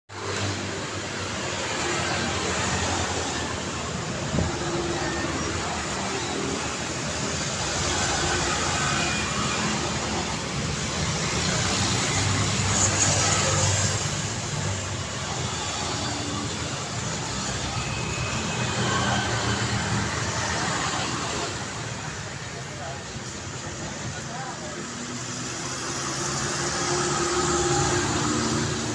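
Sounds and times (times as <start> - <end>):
road traffic passing: 0.1 - 28.9.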